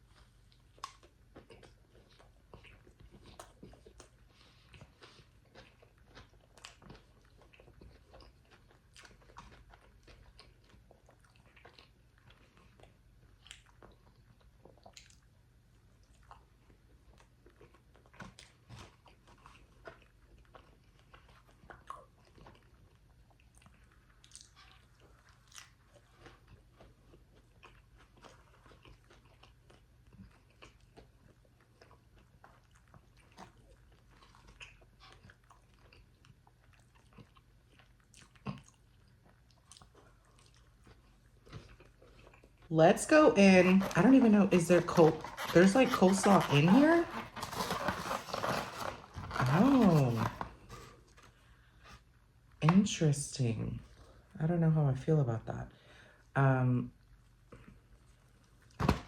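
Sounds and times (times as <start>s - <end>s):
crunching and chewing: 0.0s - 52.6s.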